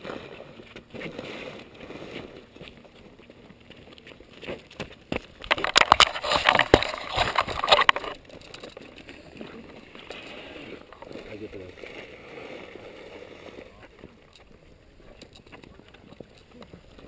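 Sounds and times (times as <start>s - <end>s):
crackling against microphone: 0.0s - 17.0s.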